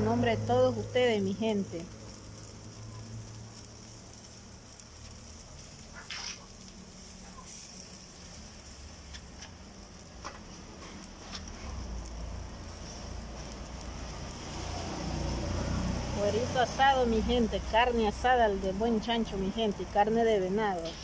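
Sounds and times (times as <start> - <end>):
meat sizzling on grill: 0.0 - 21.0.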